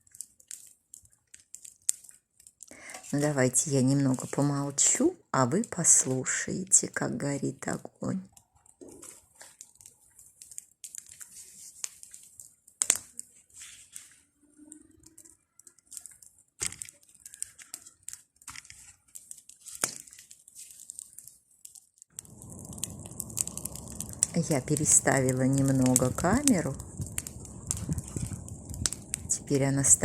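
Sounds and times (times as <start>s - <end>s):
bonfire crackling and popping: 0.0s - 6.9s, 8.1s - 30.0s
dull steady rustling noise: 0.0s - 30.0s.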